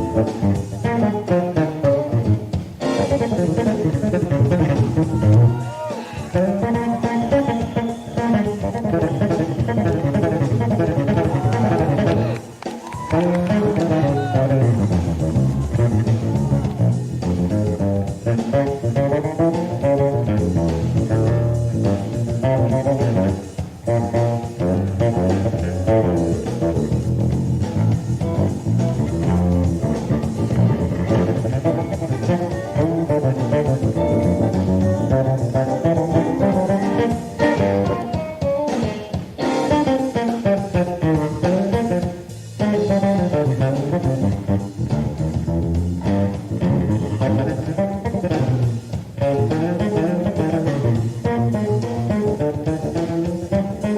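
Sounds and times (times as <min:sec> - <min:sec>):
electric bass guitar solo: 0:00.0 - 0:53.9.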